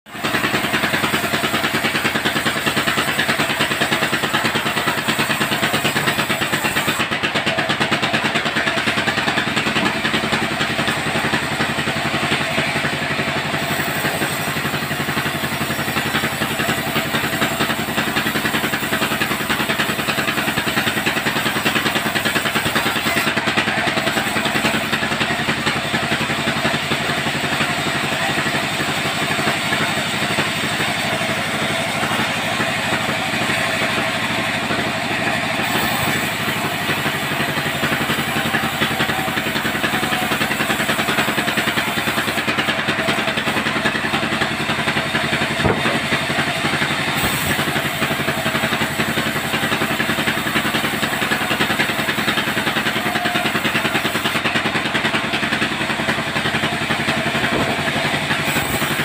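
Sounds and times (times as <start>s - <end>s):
band saw cutting timber: 0.1s - 59.0s
motor humming: 8.7s - 59.0s.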